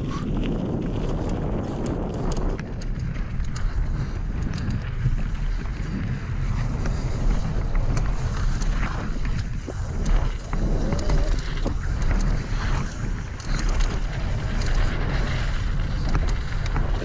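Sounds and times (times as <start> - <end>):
stones and bike rattling: 0.0 - 17.0
wind rumbling on microphone: 0.0 - 17.0
tyres rolling over gravel: 0.3 - 17.0.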